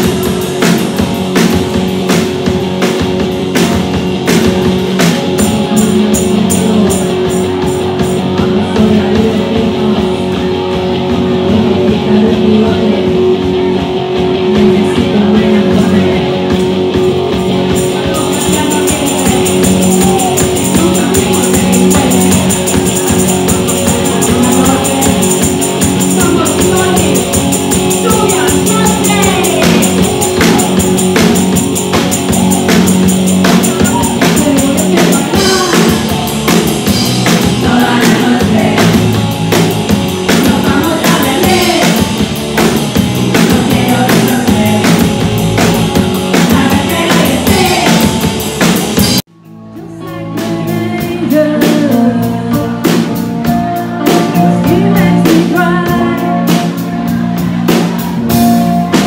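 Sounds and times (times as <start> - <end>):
person singing: 0.0 - 48.7, 49.7 - 59.0
live rock band playing: 0.0 - 59.0.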